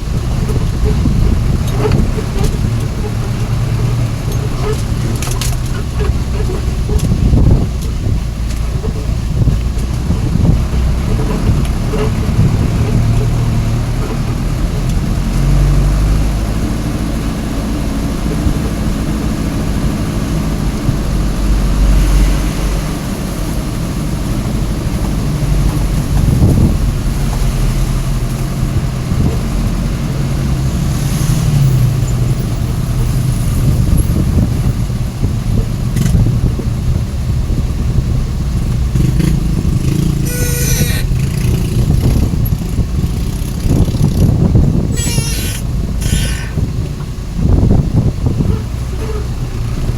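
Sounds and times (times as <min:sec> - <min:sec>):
road and wind noise: 0:00.0 - 0:49.9
truck engine droning: 0:00.0 - 0:49.9.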